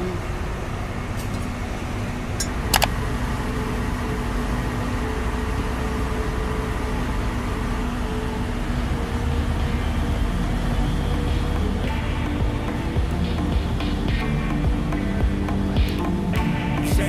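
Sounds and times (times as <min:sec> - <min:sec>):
boat engines droning: 0:00.0 - 0:16.7.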